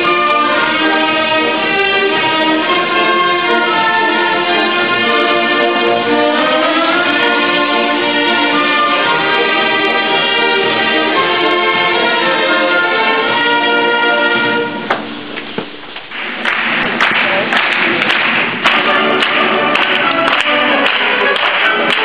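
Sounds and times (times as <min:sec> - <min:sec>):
brass: 0:00.0 - 0:15.3, 0:16.4 - 0:22.0.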